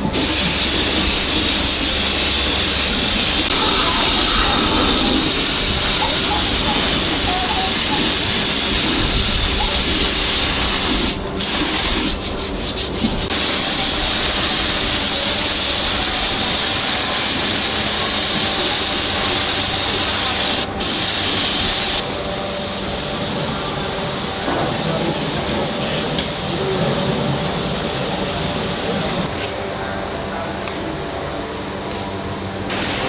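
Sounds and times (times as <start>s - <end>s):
steady hissing rush: 0.0s - 29.4s, 32.5s - 33.0s.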